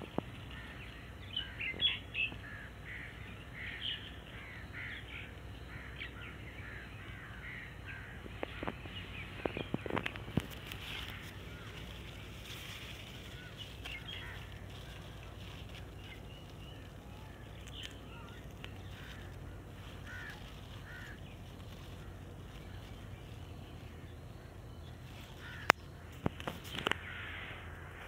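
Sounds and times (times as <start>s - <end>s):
distant birds calling: 0.0s - 28.0s
steady low rumble: 0.0s - 28.0s.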